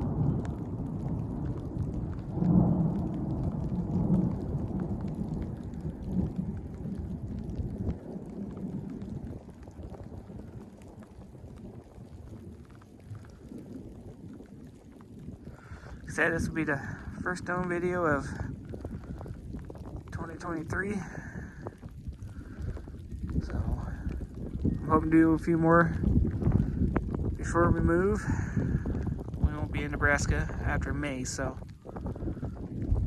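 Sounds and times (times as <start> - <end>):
thunder rumbling: 0.0 - 33.0.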